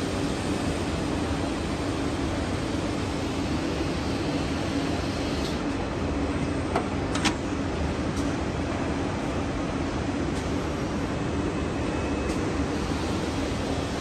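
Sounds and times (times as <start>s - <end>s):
machine mechanical hum and hiss: 0.0s - 14.0s.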